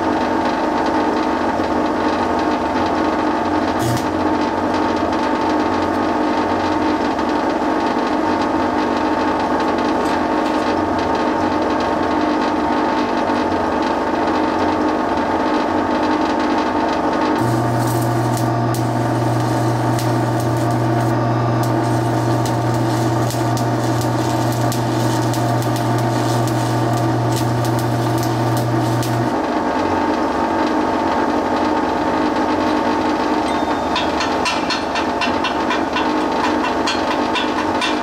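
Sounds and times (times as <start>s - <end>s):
welder cooling fan racket: 0.0s - 38.0s
welding arc crackling and humming: 0.0s - 38.0s.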